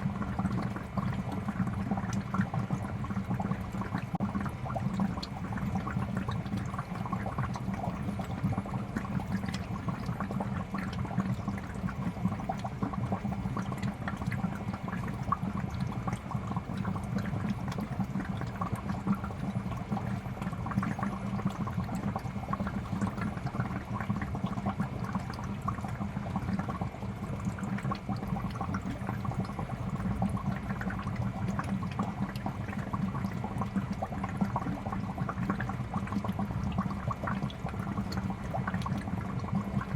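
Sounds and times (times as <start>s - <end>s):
aquarium air bubbler bubbling: 0.0s - 39.9s.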